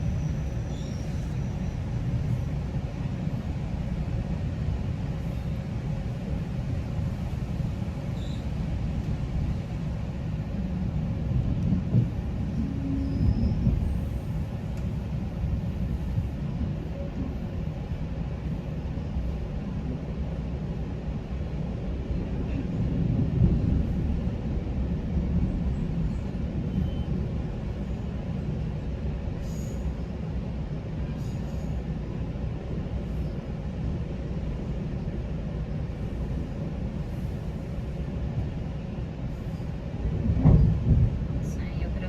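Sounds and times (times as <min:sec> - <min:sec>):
train rumble inside coach: 0:00.0 - 0:42.0.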